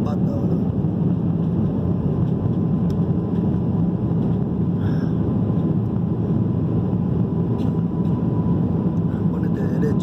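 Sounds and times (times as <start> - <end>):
jet engines and rushing air: 0.0 - 10.0.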